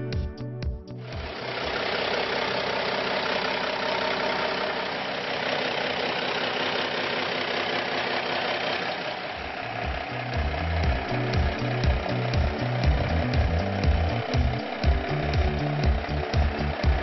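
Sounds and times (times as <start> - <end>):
diesel truck engine idling: 1.0 - 17.0.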